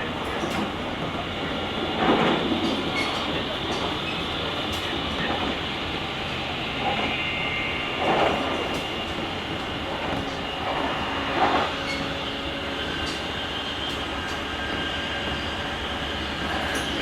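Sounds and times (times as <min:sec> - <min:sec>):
train traction motor whine: 0:00.0 - 0:17.0
wheel and rail noise: 0:00.0 - 0:17.0.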